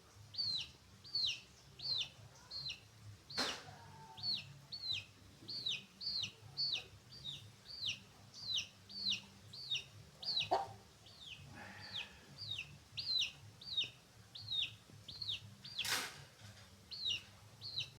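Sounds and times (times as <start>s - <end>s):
chickens peeping: 0.3s - 16.0s, 16.9s - 18.0s.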